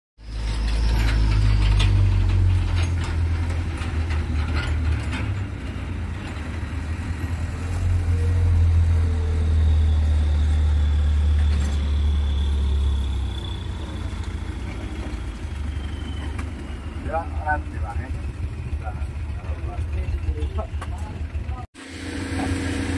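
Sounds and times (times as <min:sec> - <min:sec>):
diesel truck engine rumbling: 0:00.2 - 0:22.9.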